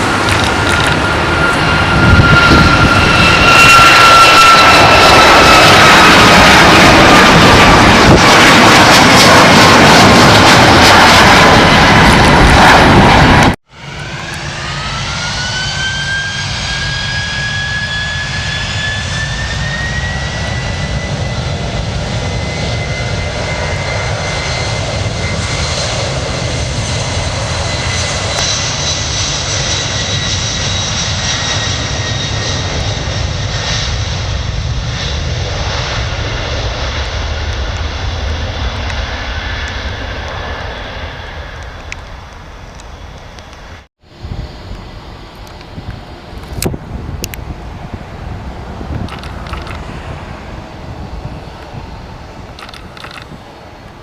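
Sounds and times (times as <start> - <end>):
jet engine whine: 0.0 - 54.0
jet roar: 0.0 - 54.0.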